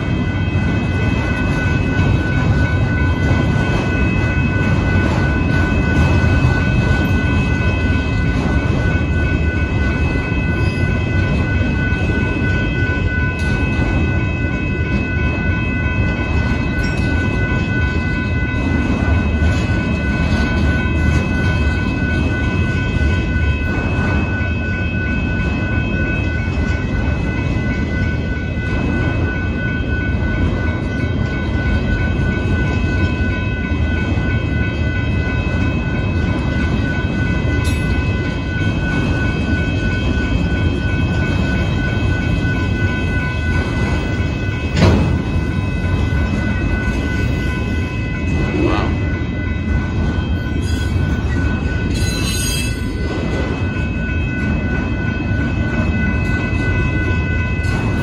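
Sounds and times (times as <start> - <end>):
crossing bell ringing: 0.0 - 58.0
train wheels rumbling on rail: 0.0 - 58.0.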